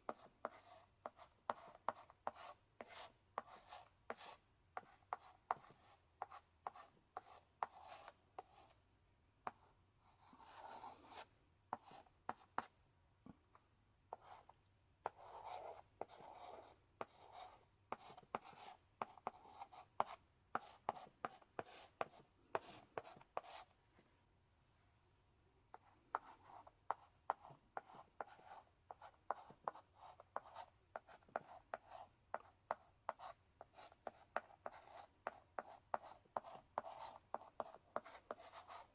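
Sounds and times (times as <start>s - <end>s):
chalk tapping and scratching on blackboard: 0.0s - 8.8s, 9.4s - 12.8s, 14.1s - 23.7s, 25.7s - 38.9s.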